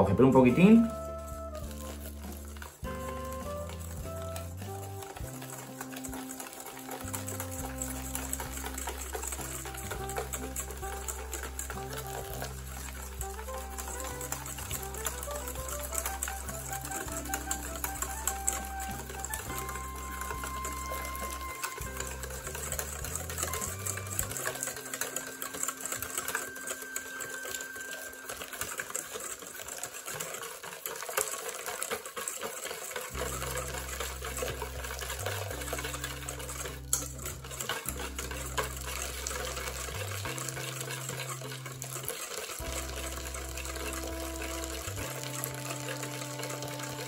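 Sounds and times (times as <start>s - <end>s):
milk pouring: 0.0s - 47.0s
whisk beating in metal bowl: 0.0s - 47.0s.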